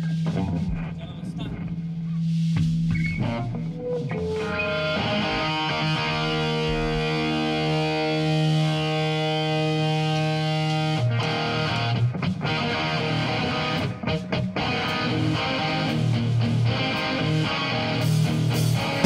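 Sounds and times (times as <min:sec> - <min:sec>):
bass guitar: 0:00.0 - 0:19.0
distorted electric guitar: 0:00.0 - 0:19.0
rock band playing live: 0:00.0 - 0:19.0.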